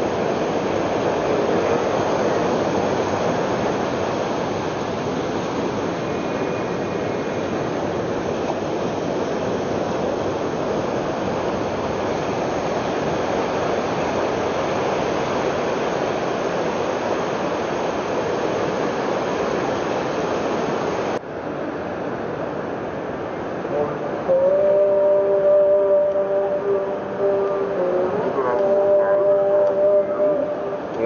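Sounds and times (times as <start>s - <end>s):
sea surf washing up beach: 0.0s - 31.0s.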